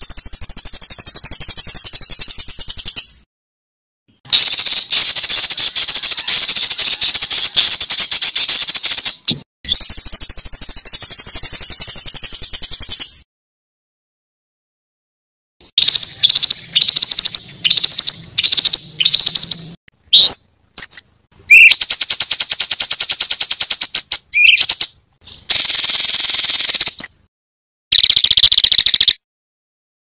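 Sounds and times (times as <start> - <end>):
songbird rattling trill: 0.0 - 3.2, 4.3 - 9.2, 9.8 - 13.2, 15.7 - 27.3, 27.9 - 29.2.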